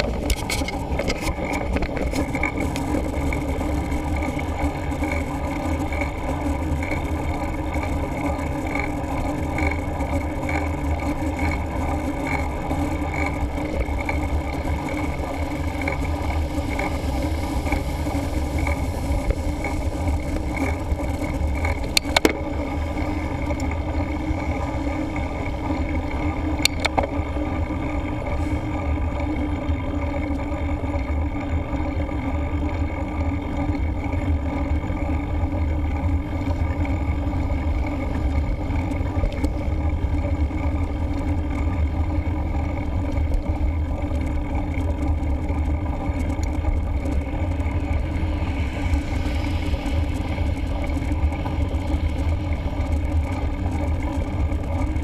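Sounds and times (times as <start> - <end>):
bike rolling on tarmac: 0.0 - 55.0.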